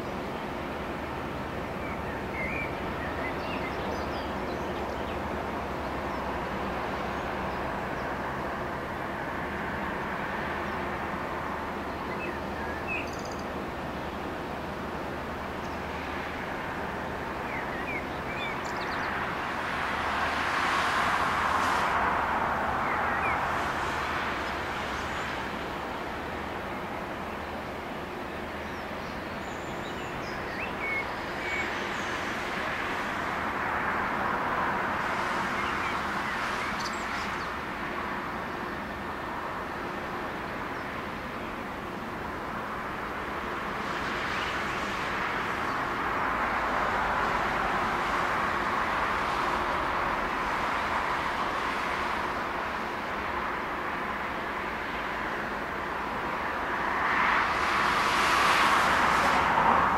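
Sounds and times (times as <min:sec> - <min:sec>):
broad rushing noise: 0:00.0 - 0:59.9
diesel engine drone: 0:00.0 - 0:59.9.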